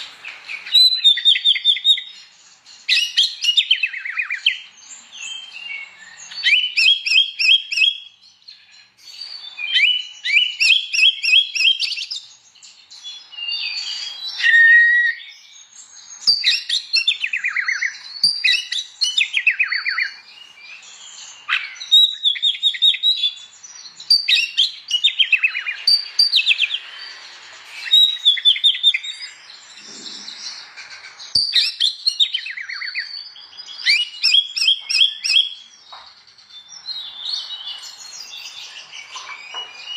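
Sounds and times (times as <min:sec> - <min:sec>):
songbird singing varied phrases: 0:00.0 - 0:39.9.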